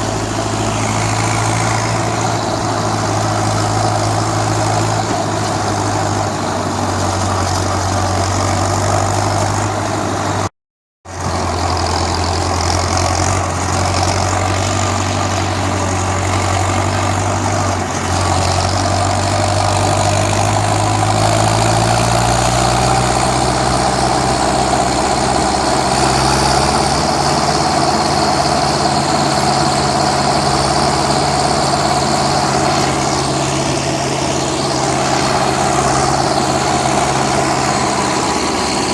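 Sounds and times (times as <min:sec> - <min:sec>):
tractor diesel engine running: 0:00.0 - 0:10.5, 0:11.1 - 0:38.9.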